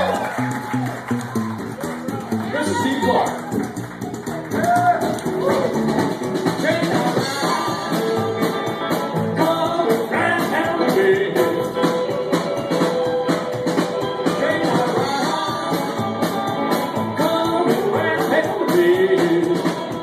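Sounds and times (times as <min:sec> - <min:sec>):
rockabilly band playing: 0:00.0 - 0:20.0.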